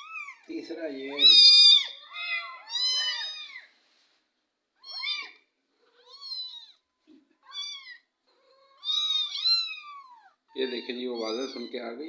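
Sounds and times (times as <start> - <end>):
kittens mewing: 0.0 - 0.5, 1.1 - 3.7, 4.8 - 11.9.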